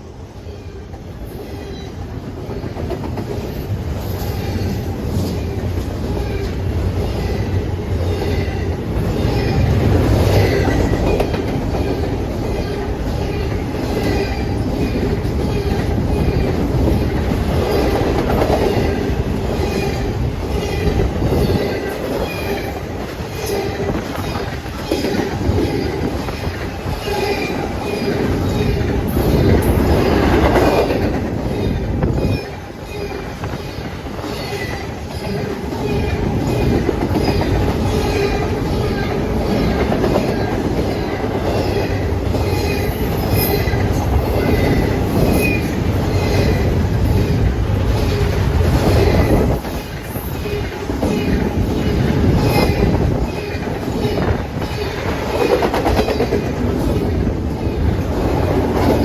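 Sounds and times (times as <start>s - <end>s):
train wheels clacking over rail joints: 2.4s - 59.0s.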